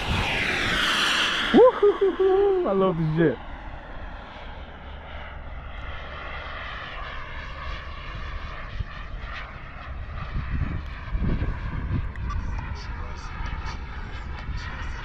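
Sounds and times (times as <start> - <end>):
low rumbling gusts: 0.0 - 15.0
model jet turbine whine: 0.0 - 15.0.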